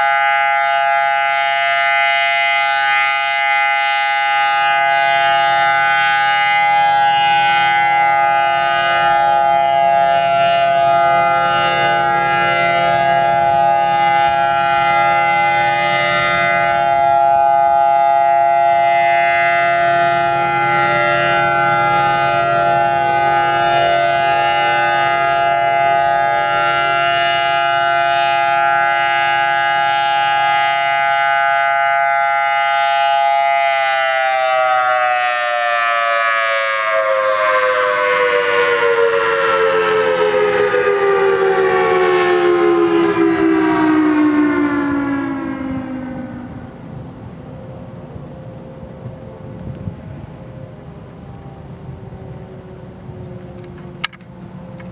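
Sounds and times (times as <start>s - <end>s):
tornado siren steady tone: 0.0s - 54.9s.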